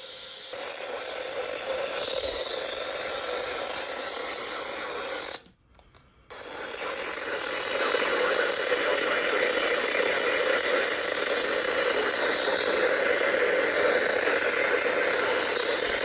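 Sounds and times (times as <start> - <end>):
radio static hiss: 0.0 - 5.5, 6.2 - 16.0.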